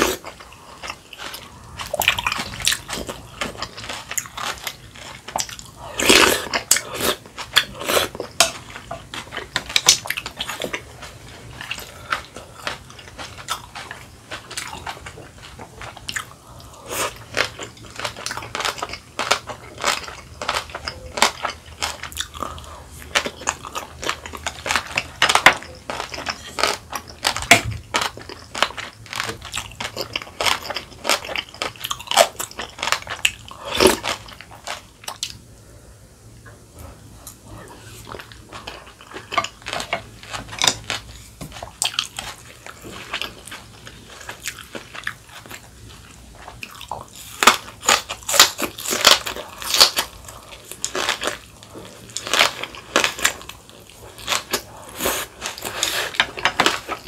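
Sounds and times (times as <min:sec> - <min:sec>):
person chewing and crunching: 0:00.0 - 0:57.0.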